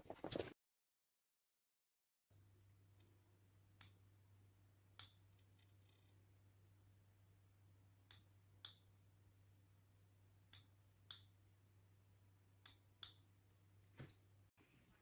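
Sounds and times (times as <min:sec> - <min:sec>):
low steady hum: 0:02.4 - 0:14.5.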